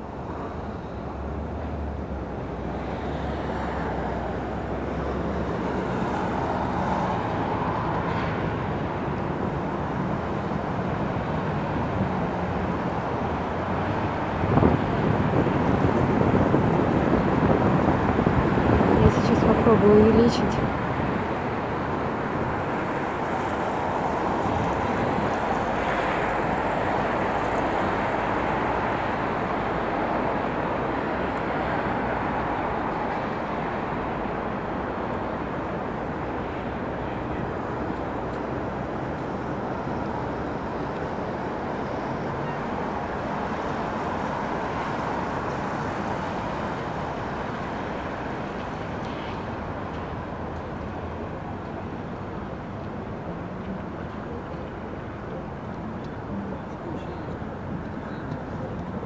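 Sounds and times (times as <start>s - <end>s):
distant city traffic: 0.0s - 59.0s.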